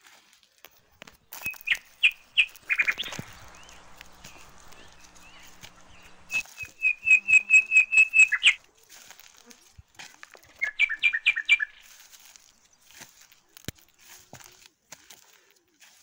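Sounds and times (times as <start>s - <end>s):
songbird singing: 0.8s - 14.1s.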